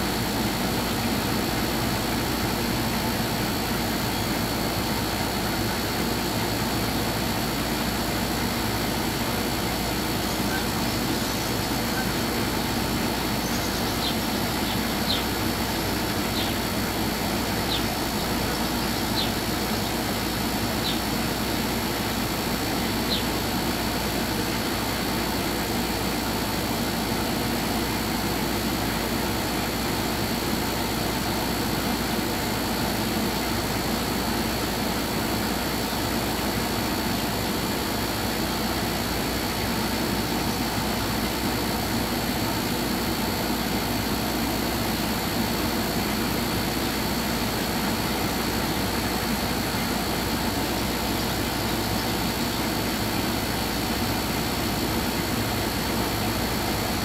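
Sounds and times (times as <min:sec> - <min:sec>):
mechanical drone with hiss: 0:00.0 - 0:57.0.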